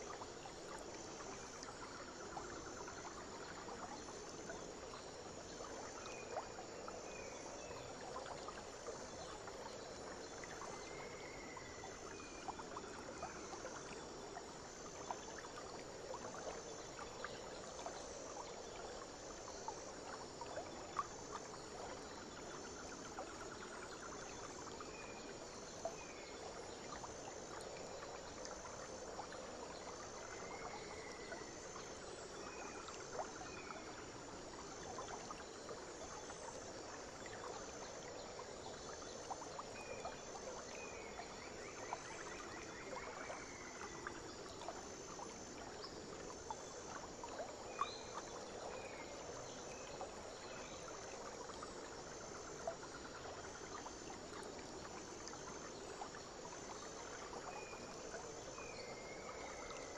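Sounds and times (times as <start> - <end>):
running water hiss: 0.0 - 59.9.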